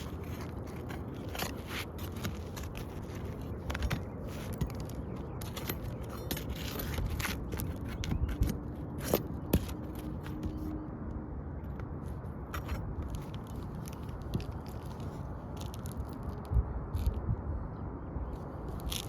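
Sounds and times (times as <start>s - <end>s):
scraping and crackling on shingles: 0.0s - 10.6s, 12.0s - 17.2s, 18.7s - 19.0s
steady low rumble: 0.0s - 19.0s.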